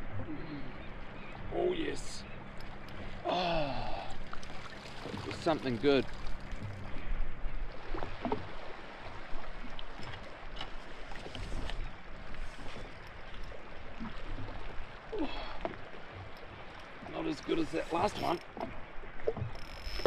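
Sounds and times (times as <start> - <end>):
water lapping against hull: 0.0 - 20.0.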